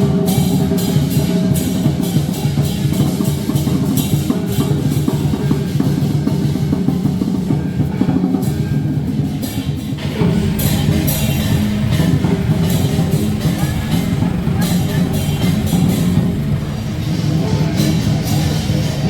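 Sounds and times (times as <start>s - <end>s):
big drum beating: 0.0s - 19.0s
cymbal crashes: 0.0s - 19.0s.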